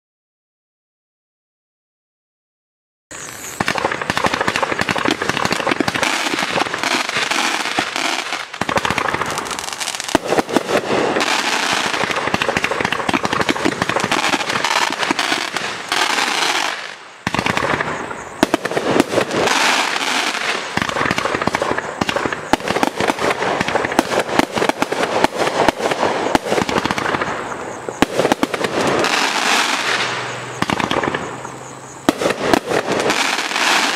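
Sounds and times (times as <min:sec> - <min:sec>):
fireworks launching and bursting: 0:03.1 - 0:33.9.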